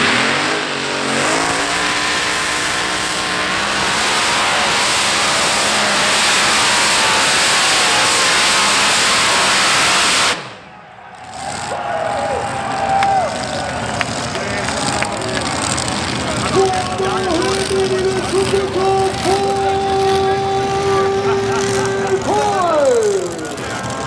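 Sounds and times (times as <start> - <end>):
tractor engine roaring at full throttle: 0.0 - 24.0.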